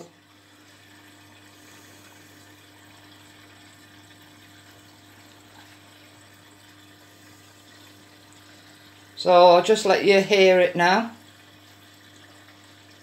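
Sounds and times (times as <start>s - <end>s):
water rushing into washing machine: 0.0s - 13.0s.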